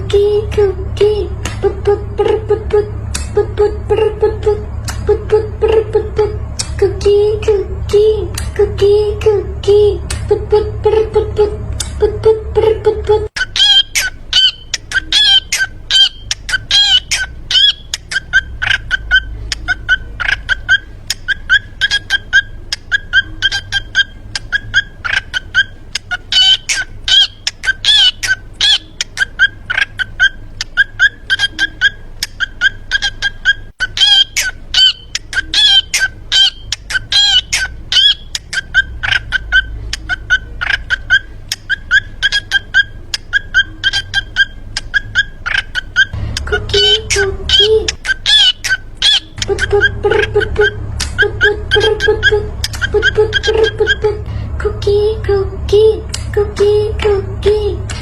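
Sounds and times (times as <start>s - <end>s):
parrot squawking: 0.0s - 55.3s
low steady hum: 0.0s - 58.0s.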